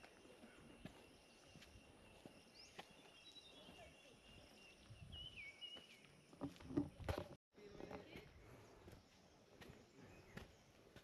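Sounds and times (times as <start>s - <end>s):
footsteps on paved path: 0.0s - 11.0s.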